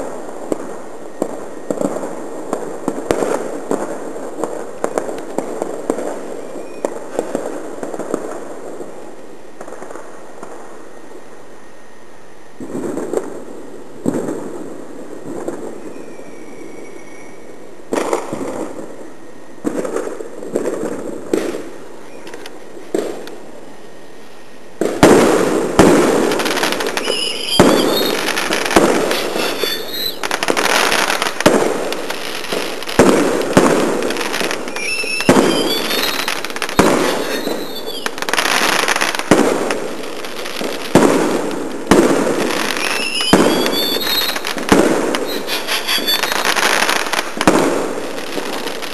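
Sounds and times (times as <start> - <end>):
fireworks bangs and crackling: 0.0 - 11.4, 12.5 - 48.9
firework whistles gliding in pitch: 0.0 - 48.9.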